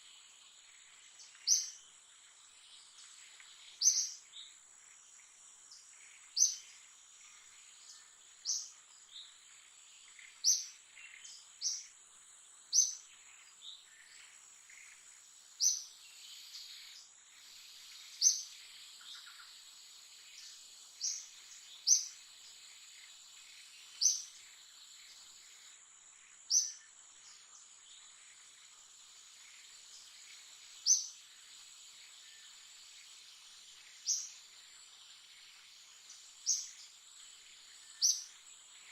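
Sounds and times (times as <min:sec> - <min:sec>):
bird chirping: 0:00.0 - 0:38.9
insect drone: 0:00.0 - 0:38.9.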